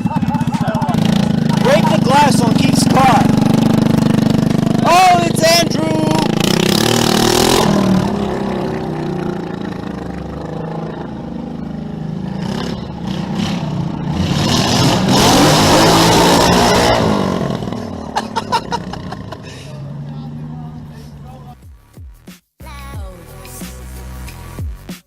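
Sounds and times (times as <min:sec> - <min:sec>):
vehicle engine revving: 0:00.0 - 0:21.6.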